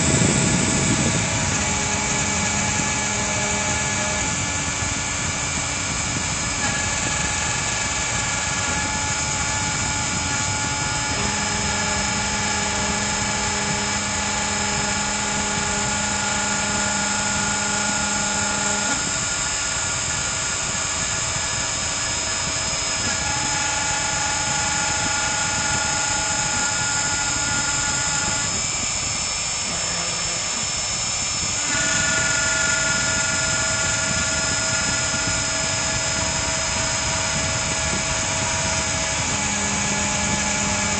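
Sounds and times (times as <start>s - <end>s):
cnc router spindle running: 0.0s - 40.9s
whining machine tones: 0.0s - 40.9s.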